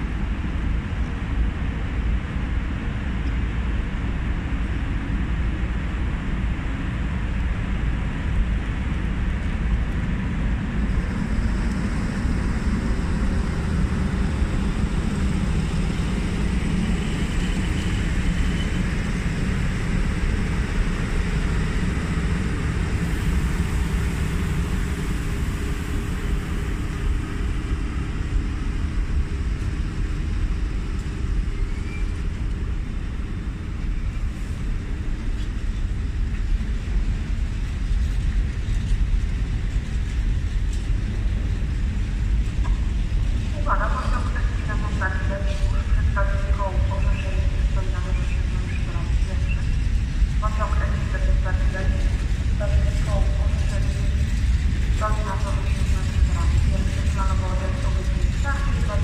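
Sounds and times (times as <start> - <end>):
locomotive rumble: 0.0 - 59.0.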